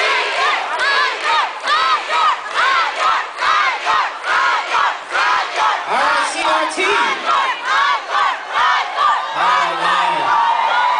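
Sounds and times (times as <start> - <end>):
crowd cheering: 0.0 - 10.9.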